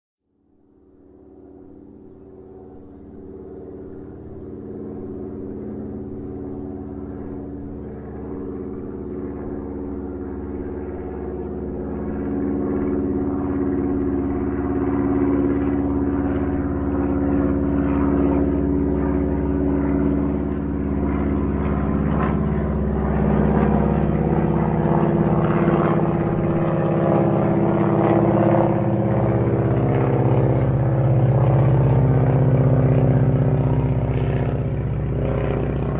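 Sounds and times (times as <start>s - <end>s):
small airplane engine droning: 0.2s - 35.9s.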